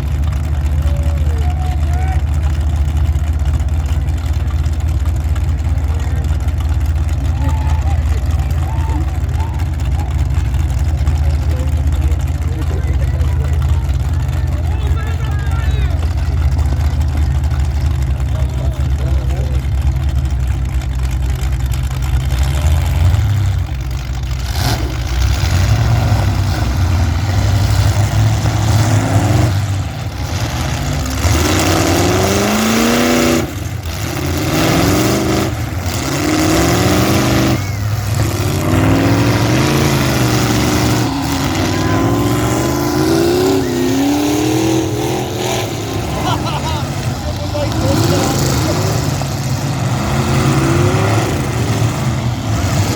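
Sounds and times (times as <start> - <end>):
car engines revving hard: 0.0 - 52.9
low engine rumble: 0.0 - 52.9.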